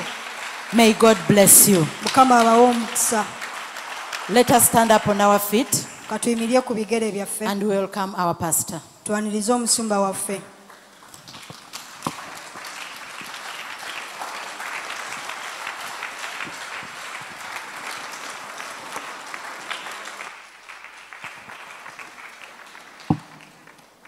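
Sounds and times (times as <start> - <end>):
crowd applauding: 0.0 - 6.6, 10.7 - 24.0.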